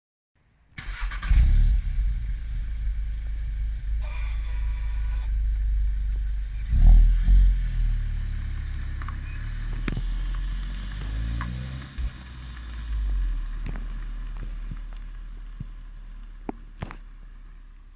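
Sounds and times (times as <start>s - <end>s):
car engine idling: 0.8s - 17.9s
car engine starting up: 0.8s - 17.9s
engine throttle blips: 0.8s - 17.9s.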